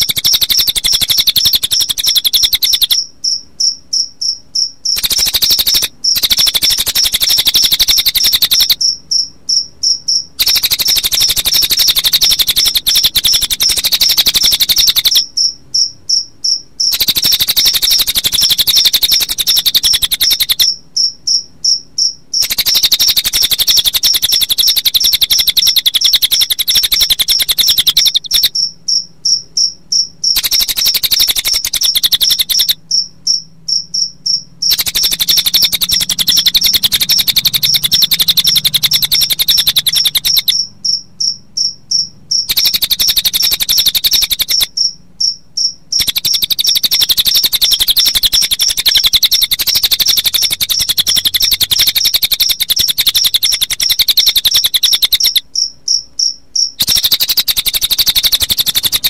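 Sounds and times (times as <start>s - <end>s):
bird chirps: 0.0s - 59.0s
cricket trilling: 0.0s - 59.0s.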